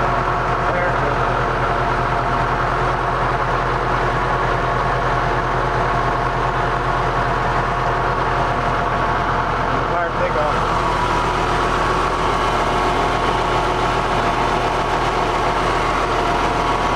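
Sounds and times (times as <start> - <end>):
tractor diesel engine idling: 0.0 - 16.9.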